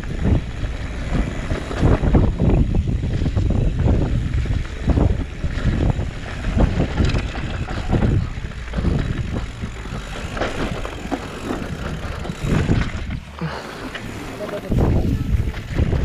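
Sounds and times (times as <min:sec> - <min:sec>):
mountain bike rattling: 0:00.0 - 0:16.0
wind rushing over microphone: 0:00.0 - 0:16.0.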